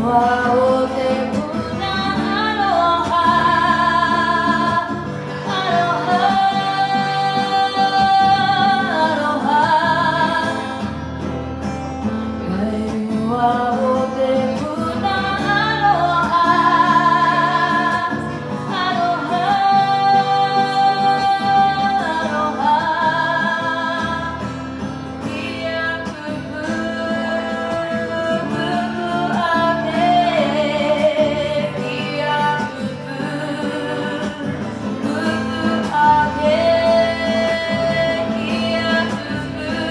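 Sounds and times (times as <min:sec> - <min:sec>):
person singing with vibrato: 0:00.0 - 0:11.2, 0:12.4 - 0:39.9
guitar accompaniment: 0:00.0 - 0:39.9.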